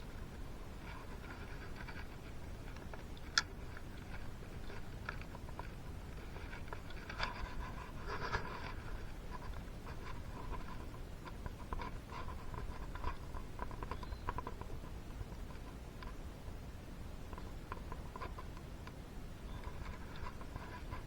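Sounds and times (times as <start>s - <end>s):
engine parts clicking and scratching: 0.0s - 16.3s, 17.2s - 21.0s
rustle: 0.0s - 21.0s.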